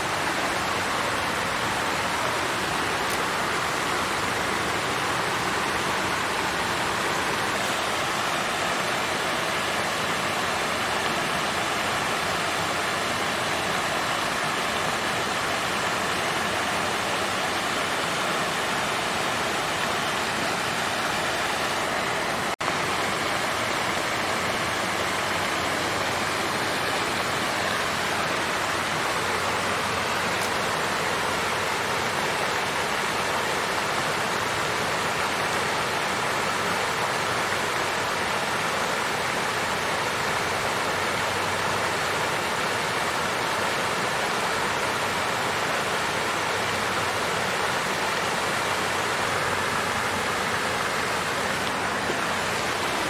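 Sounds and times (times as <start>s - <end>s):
water fountain splashing: 0.0s - 53.0s.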